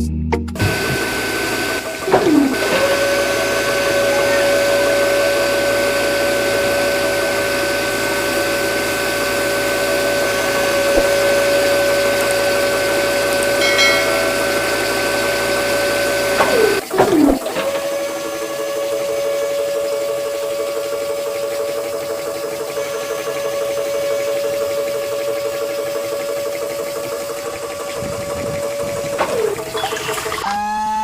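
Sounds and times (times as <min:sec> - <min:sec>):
small electric motor whine: 0:00.6 - 0:17.0, 0:17.6 - 0:31.0.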